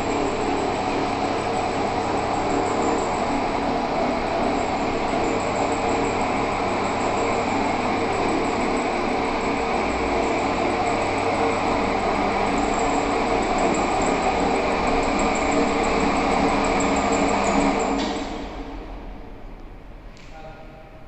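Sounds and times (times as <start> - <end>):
floor grinder motor hum: 0.0 - 19.5.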